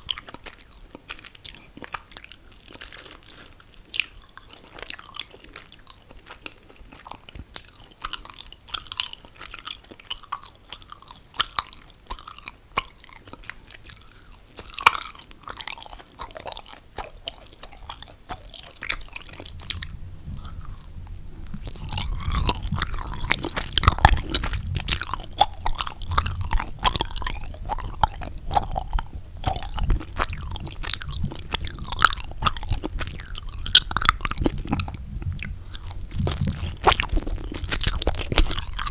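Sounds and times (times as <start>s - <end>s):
sticky chewing mouth sounds: 0.0s - 38.9s.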